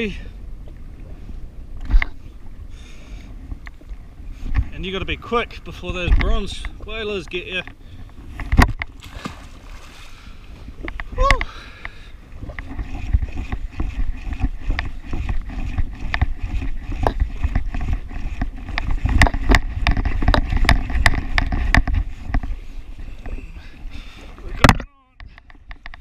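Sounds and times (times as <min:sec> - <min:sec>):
waves slapping against hull: 0:00.0 - 0:26.0
wind on microphone: 0:00.0 - 0:26.0.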